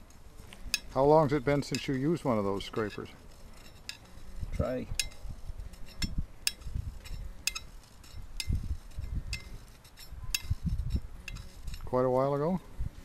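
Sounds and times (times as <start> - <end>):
hand scraper scraping metal: 0.7 - 12.2.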